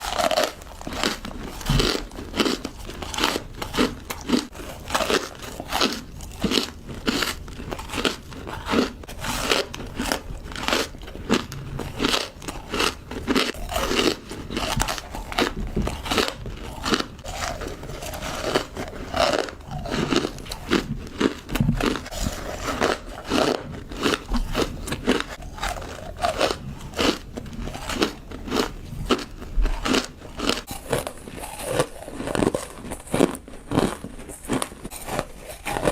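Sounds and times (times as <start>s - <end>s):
ice crunching between teeth: 0.0s - 35.9s.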